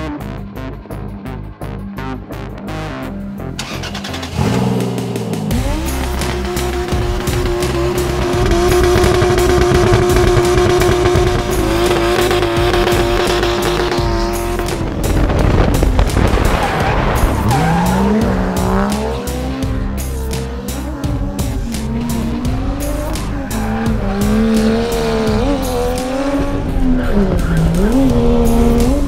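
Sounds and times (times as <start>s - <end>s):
music: 0.0s - 29.0s
car engine revving: 1.8s - 29.0s.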